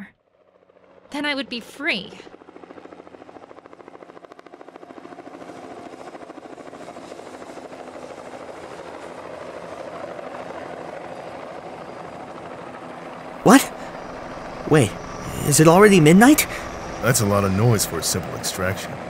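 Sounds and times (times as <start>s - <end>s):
helicopter rotor chopping: 0.0s - 19.0s.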